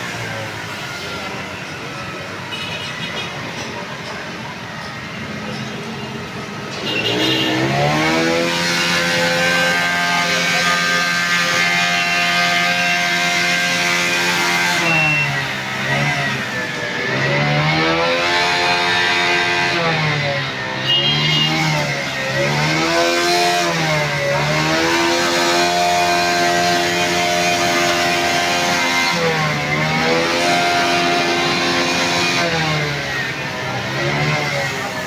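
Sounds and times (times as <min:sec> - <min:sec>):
motorcycle engine revving: 0:06.8 - 0:35.0.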